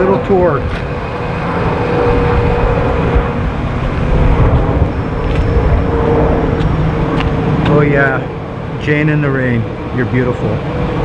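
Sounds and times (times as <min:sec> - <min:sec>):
mid-pitched hum: 0:00.0 - 0:11.0
street traffic rumble: 0:00.0 - 0:11.0.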